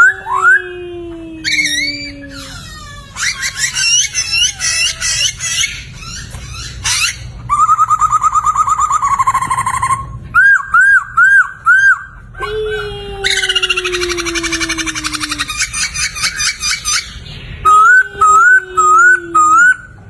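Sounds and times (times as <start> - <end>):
laughingthrush singing: 0.0 - 20.0.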